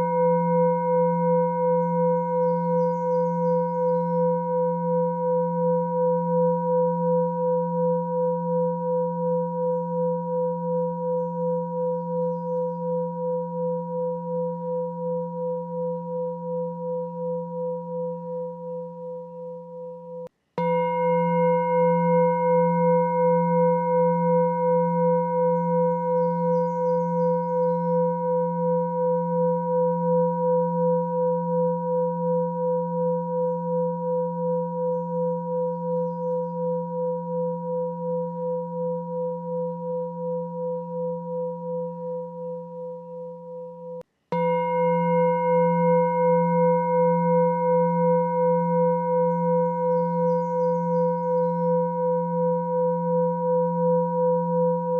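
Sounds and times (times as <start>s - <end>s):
ringing meditation tone: 0.0s - 54.9s.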